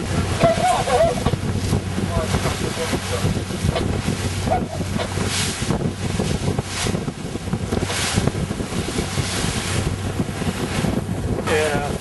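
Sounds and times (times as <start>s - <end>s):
water rushing past hull: 0.0s - 12.0s
wind buffeting microphone: 0.0s - 12.0s.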